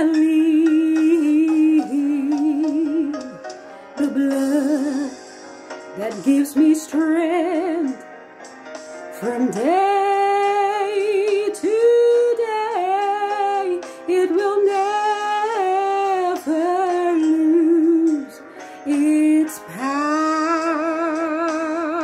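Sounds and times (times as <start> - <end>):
woman singing a hymn: 0.0 - 3.4, 4.0 - 5.2, 6.0 - 8.0, 9.2 - 22.0.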